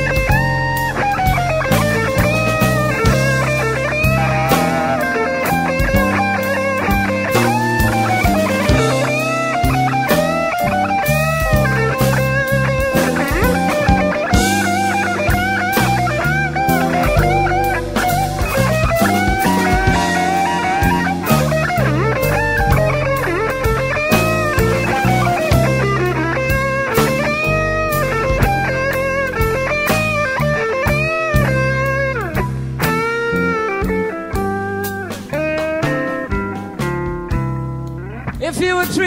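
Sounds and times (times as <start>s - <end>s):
bass and drums: 0.0s - 39.0s
electric blues guitar solo: 0.0s - 39.0s.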